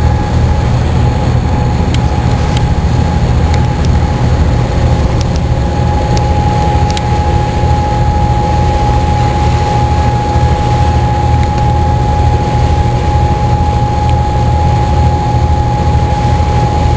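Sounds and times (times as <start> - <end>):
engine whine: 0.0 - 16.9
ferry engines rumbling: 0.0 - 16.9.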